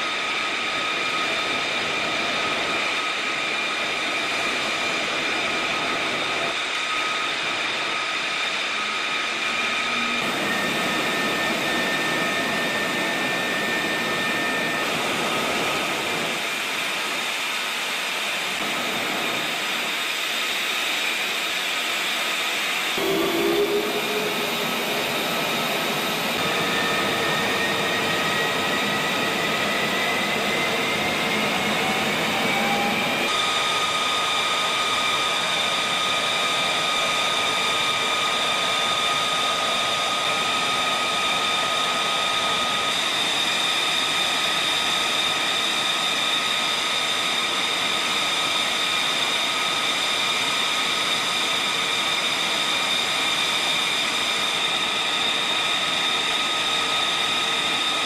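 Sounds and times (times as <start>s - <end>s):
high-pitched engine whines: 0.0s - 58.0s
jet engine running: 0.0s - 58.0s.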